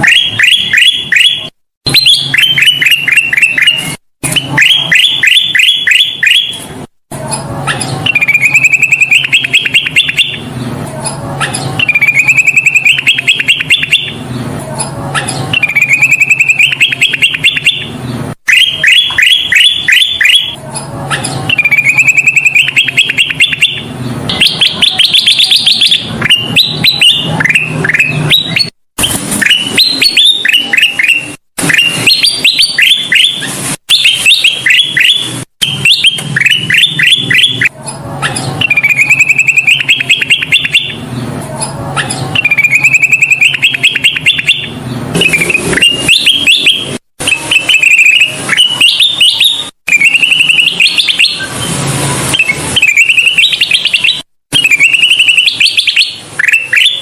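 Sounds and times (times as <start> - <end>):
bulbul singing rapid chirps: 0.0 - 6.9, 7.5 - 41.1, 41.7 - 51.7, 52.3 - 57.0.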